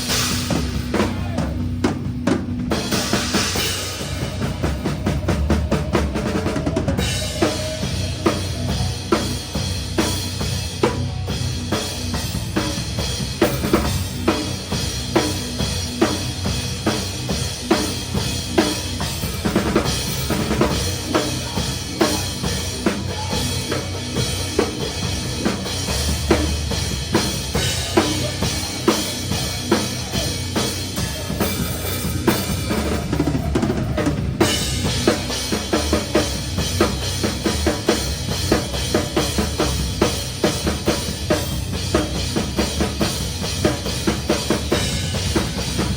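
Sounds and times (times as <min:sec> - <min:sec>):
metal band playing live: 0:00.0 - 0:45.9.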